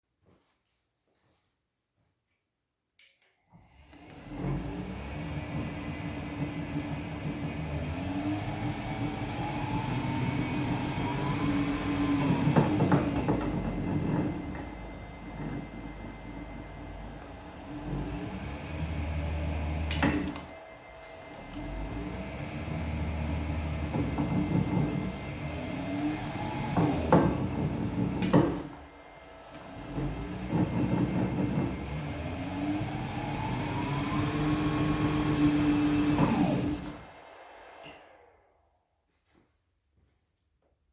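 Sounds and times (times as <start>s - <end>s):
metal lathe motor whining: 3.6s - 38.5s.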